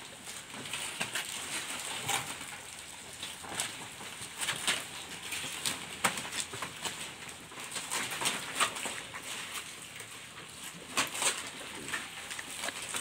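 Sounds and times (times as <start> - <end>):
goats chewing leaves: 0.0 - 13.0
leaves rustling and snapping: 0.0 - 13.0.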